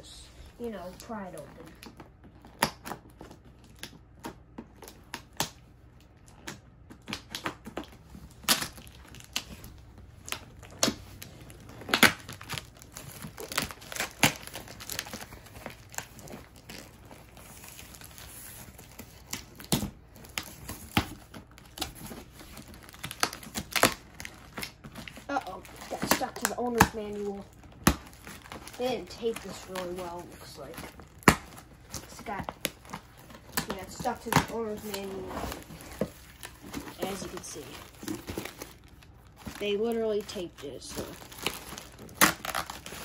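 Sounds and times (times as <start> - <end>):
packing tape tearing: 6.3 - 43.0
cardboard rustling: 7.6 - 43.0.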